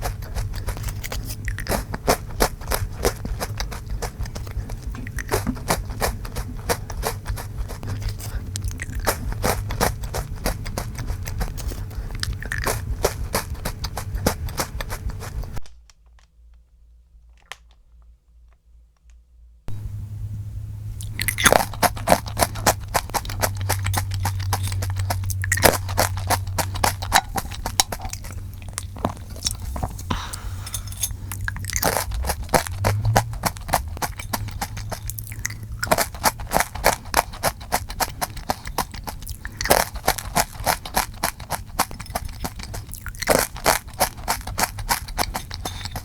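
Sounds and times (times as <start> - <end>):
crunching and chewing biscuit: 0.0 - 16.2, 21.0 - 46.0
crunching rice cracker: 0.0 - 16.2, 21.0 - 46.0.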